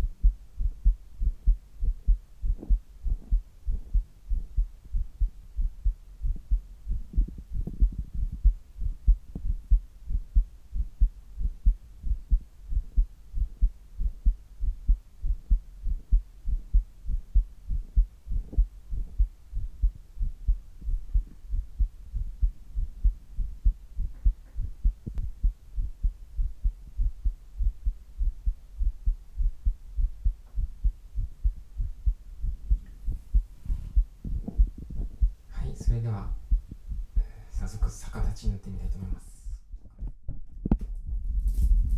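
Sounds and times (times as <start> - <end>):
heartbeat: 0.0 - 41.9.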